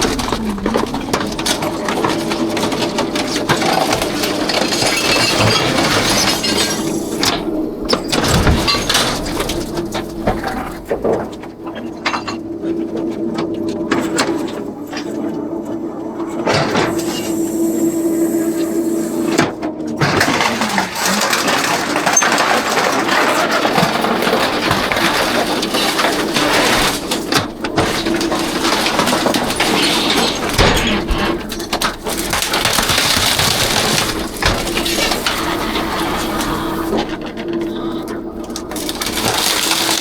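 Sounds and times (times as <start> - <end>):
garbage truck compacting trash: 0.0 - 40.0.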